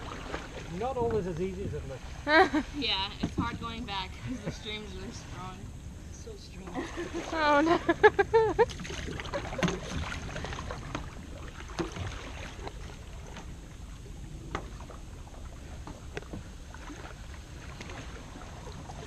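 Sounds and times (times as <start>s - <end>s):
low water rumble: 0.0s - 19.0s
paddle splashing in water: 0.0s - 19.0s.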